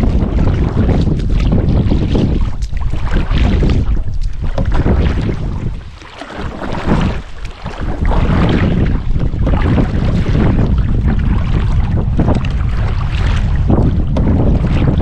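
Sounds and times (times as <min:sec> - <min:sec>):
paddle splashing in water: 0:00.0 - 0:15.0
wind rumbling on microphone: 0:00.0 - 0:15.0.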